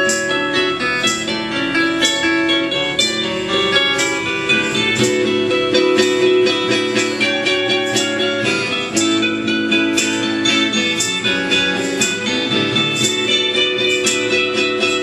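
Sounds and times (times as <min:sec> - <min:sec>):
guitar sustained notes: 0:00.0 - 0:15.0
rock band playing: 0:00.0 - 0:15.0
steady drum beat: 0:00.0 - 0:15.0.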